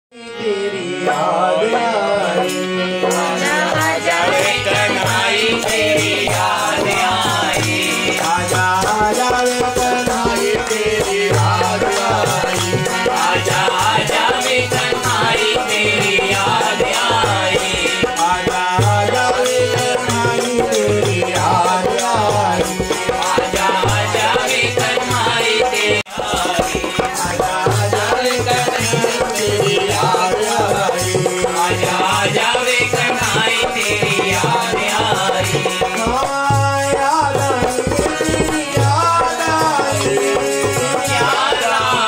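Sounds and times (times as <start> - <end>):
harmonium reed notes: 0.1 - 42.0
man singing devotional song: 0.1 - 42.0
rattling percussion beat: 2.4 - 42.0.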